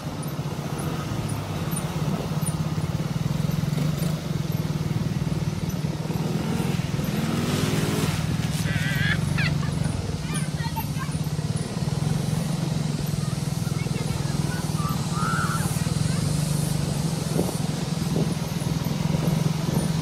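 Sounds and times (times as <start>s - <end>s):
atv engines running: 0.0s - 20.0s.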